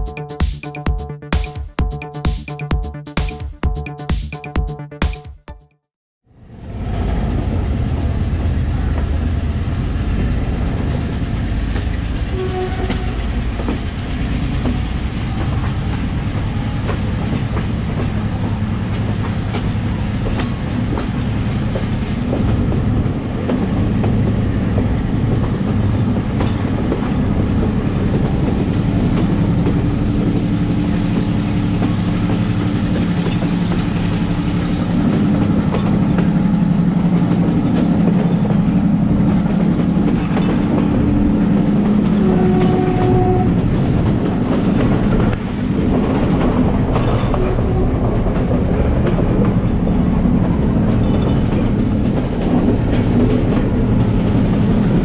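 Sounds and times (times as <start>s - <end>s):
train wheels rumbling on rail: 6.4s - 55.0s.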